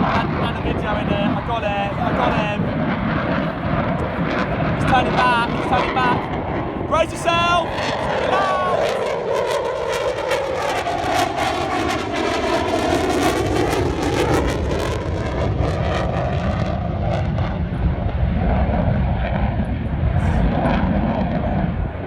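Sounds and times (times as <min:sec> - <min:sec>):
aircraft engine passing low: 0:00.0 - 0:22.0.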